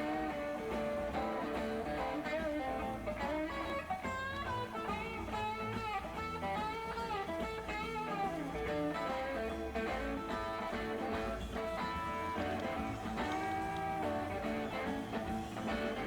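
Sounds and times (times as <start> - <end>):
live rock band: 0.0 - 16.0.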